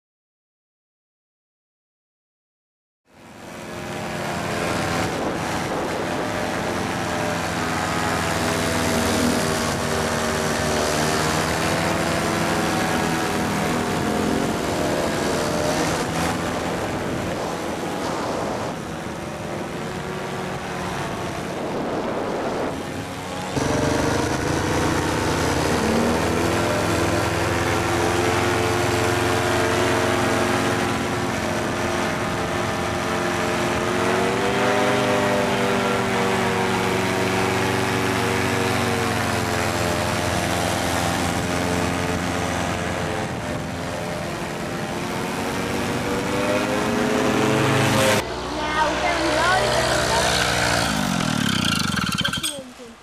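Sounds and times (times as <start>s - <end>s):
paramotor engine and propeller: 3.1s - 53.0s.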